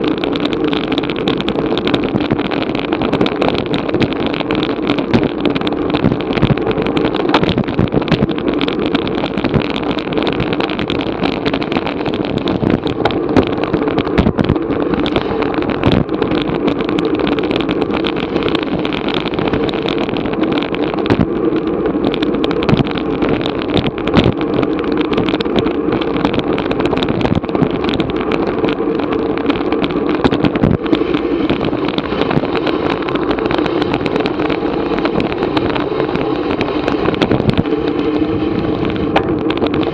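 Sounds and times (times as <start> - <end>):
road noise: 0.0 - 39.9
small clicks and rattles: 0.0 - 39.9
wind rush: 0.0 - 39.9.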